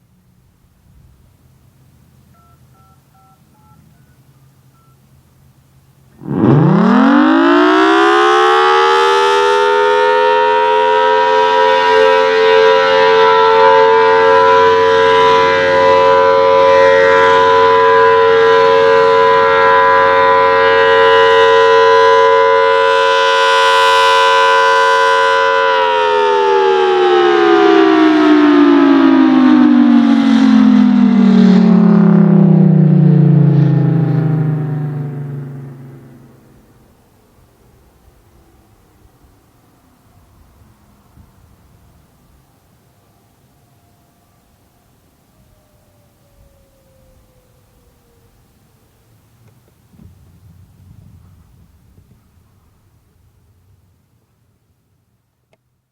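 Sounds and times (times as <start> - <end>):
outdoor warning siren: 0.1 - 54.4.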